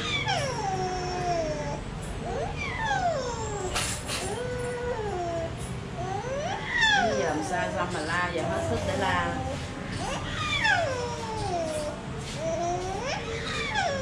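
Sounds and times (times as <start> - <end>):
baby moaning and whimpering: 0.0 - 14.0.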